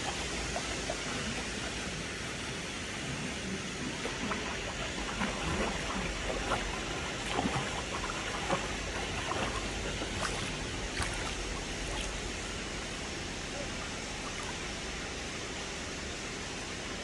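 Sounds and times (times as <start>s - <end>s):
stream water running over rocks: 0.0s - 17.0s.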